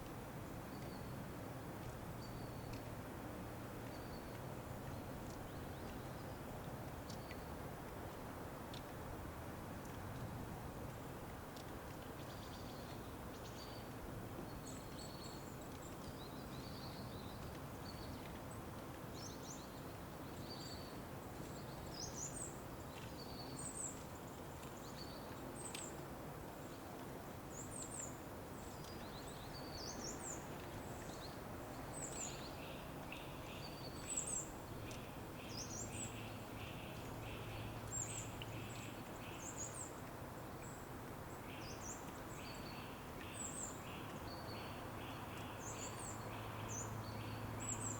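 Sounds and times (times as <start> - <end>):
songbirds chirping: 0.0 - 8.1, 11.6 - 47.9
steady background hiss: 0.0 - 47.9.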